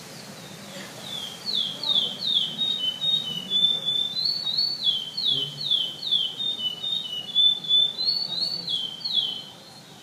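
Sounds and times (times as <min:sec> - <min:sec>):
finch singing high whistles: 0:00.4 - 0:10.0.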